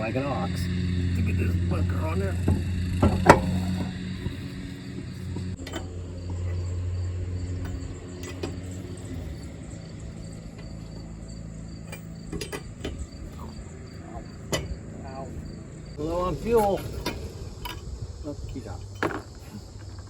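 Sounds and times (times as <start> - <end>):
car engine idling: 0.0 - 20.0
crickets chirping: 0.0 - 20.0.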